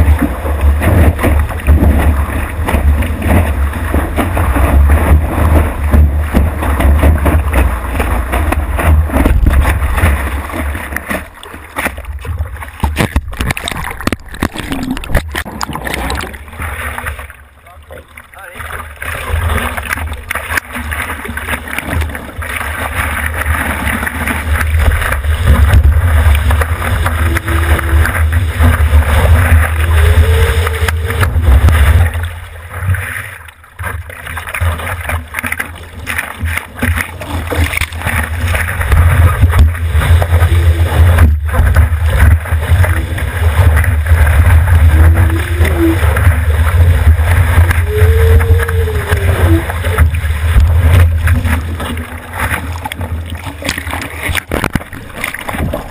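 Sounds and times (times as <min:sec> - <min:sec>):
water sloshing and splashing: 0:00.0 - 0:55.9.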